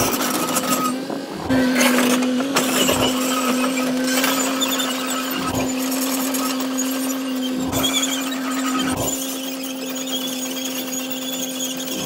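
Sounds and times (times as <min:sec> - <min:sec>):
excavator humming: 0:00.0 - 0:12.0.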